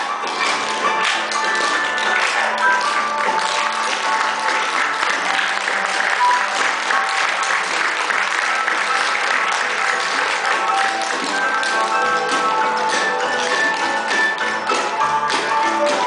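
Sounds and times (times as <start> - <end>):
hands clapping: 0.0 - 16.0
music playing: 0.0 - 16.0.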